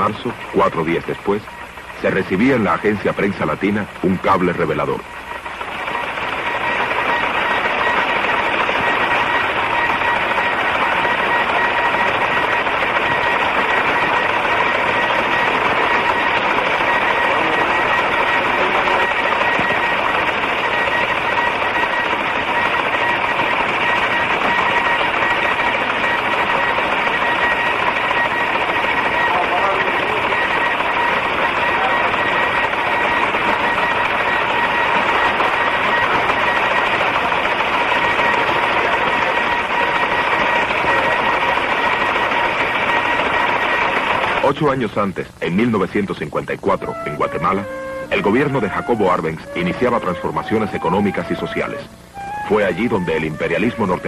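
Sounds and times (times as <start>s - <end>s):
faint steady tones: 0.0s - 54.0s
faint steady whine: 0.0s - 54.0s
teleprinter mechanical chatter: 0.0s - 54.0s.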